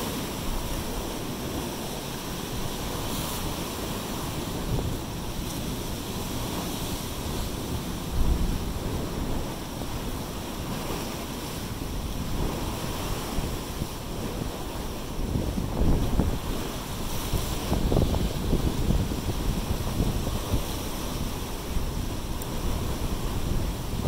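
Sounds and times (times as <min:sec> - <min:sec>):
surf washing over rocks: 0:00.0 - 0:24.0
wind buffeting microphone: 0:00.0 - 0:24.0.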